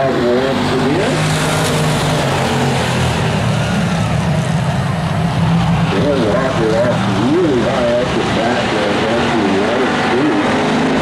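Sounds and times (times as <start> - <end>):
race car engines accelerating: 0.0 - 11.0.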